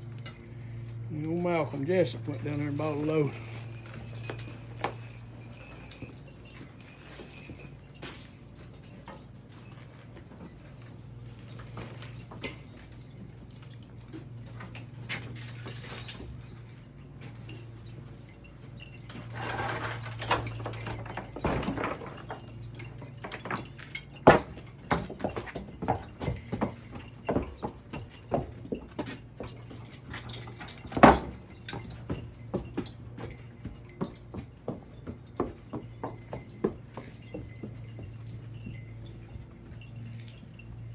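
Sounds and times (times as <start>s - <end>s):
hooves on hard surface: 0.0s - 40.9s.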